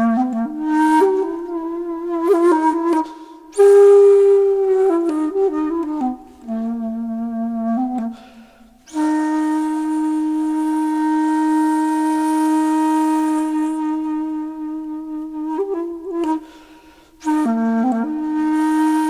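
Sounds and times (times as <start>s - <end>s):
solo flute music: 0.0s - 19.0s.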